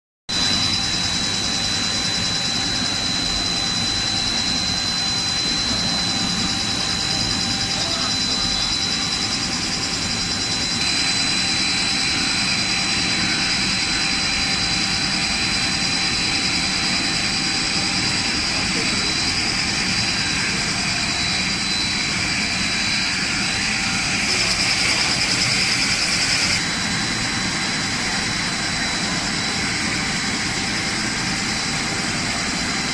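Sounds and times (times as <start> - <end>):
constant high whine: 0.3 - 32.9
machinery whirring: 0.4 - 32.9.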